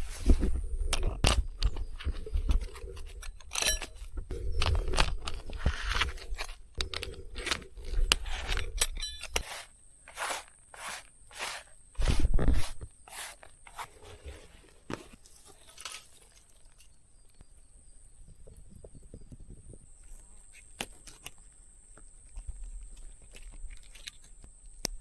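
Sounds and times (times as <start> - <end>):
camping gear scraping and clicking: 0.0 - 17.4, 20.2 - 25.0
rustle: 0.0 - 25.0.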